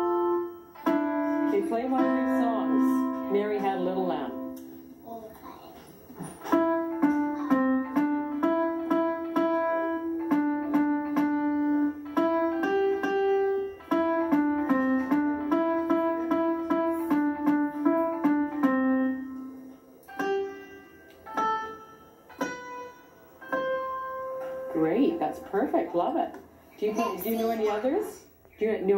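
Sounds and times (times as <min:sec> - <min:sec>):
child playing piano notes: 0:00.0 - 0:05.6, 0:06.3 - 0:26.3.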